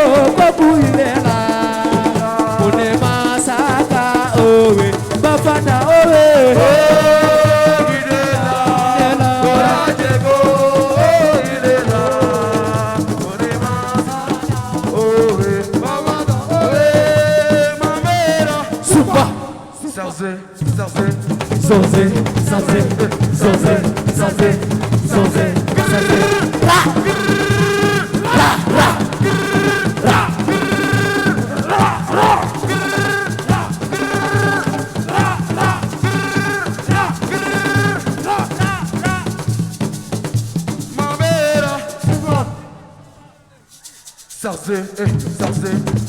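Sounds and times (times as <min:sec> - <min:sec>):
person singing: 0:00.0 - 0:39.6
shakers and percussion: 0:00.0 - 0:46.0.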